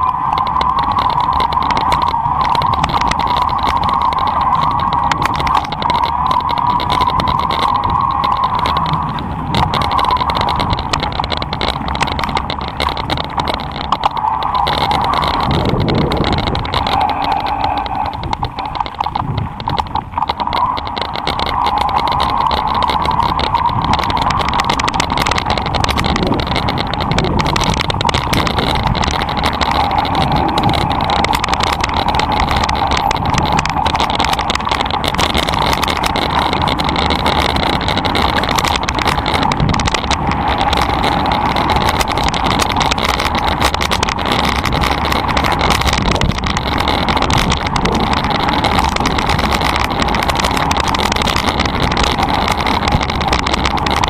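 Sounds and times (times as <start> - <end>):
bike rattling on bumps: 0.0 - 54.0.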